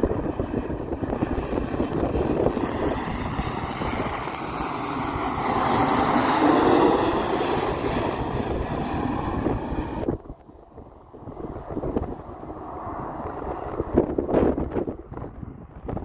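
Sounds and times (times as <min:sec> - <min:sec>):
jet airliner roaring overhead: 0:00.0 - 0:16.0
wind buffeting microphone: 0:00.0 - 0:16.0.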